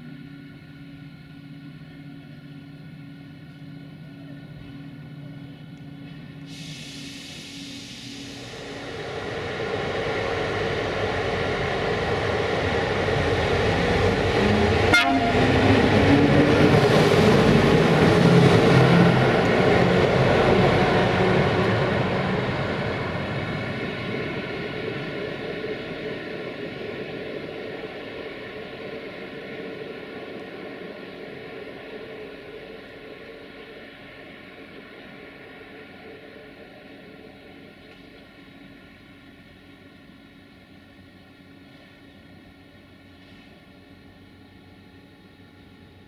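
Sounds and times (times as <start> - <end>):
train rumble passing: 0.0 - 45.6.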